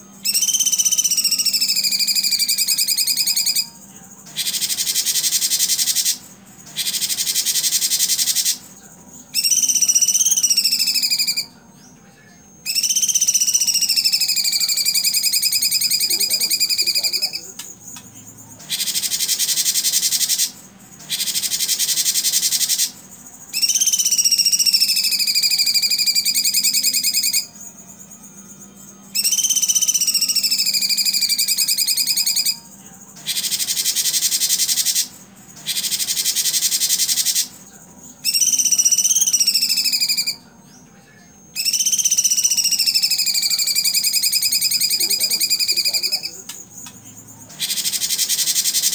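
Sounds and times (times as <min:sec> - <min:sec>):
bird buzzy trills: 0:00.0 - 0:48.9.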